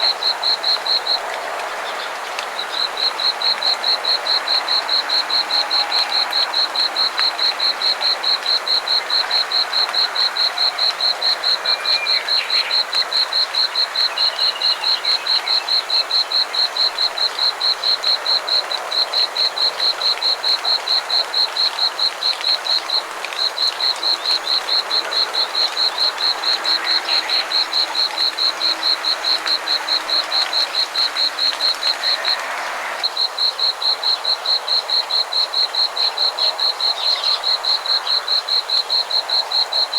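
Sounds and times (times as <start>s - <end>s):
frogs calling in chorus: 0.0s - 39.9s.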